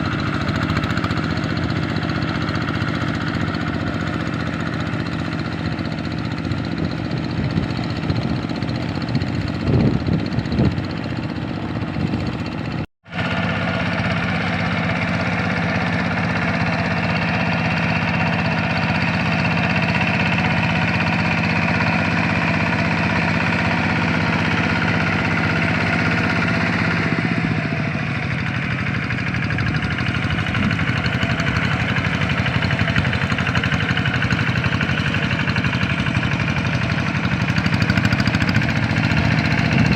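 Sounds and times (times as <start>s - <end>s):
diesel engine running: 0.0s - 39.9s
engine knocks: 0.0s - 39.9s.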